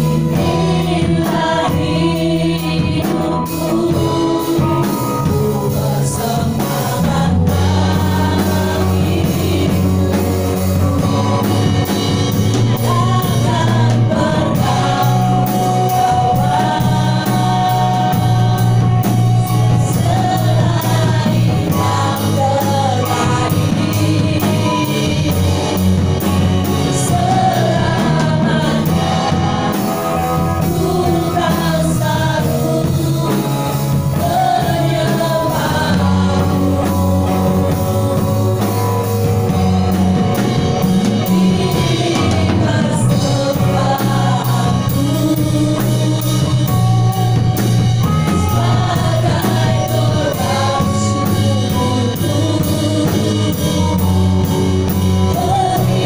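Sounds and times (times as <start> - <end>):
band with steady bass line: 0.0 - 56.0
women singing into microphones: 0.0 - 56.0.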